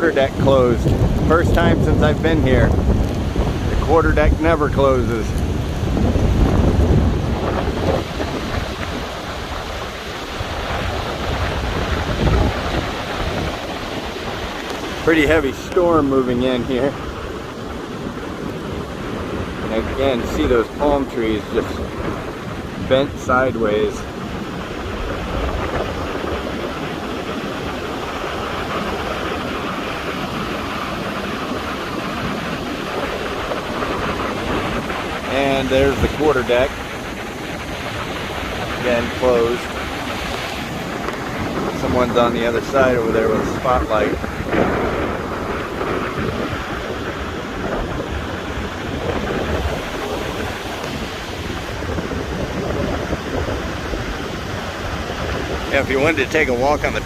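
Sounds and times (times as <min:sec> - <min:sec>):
surf rushing: 0:00.0 - 0:57.0
wind and heavy rain: 0:00.0 - 0:57.0
wind buffeting microphone: 0:00.0 - 0:57.0.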